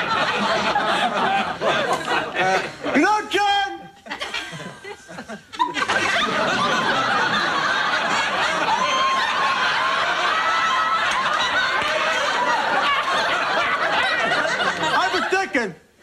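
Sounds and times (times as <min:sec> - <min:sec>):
studio audience laughing: 0:00.0 - 0:03.0, 0:04.0 - 0:15.6.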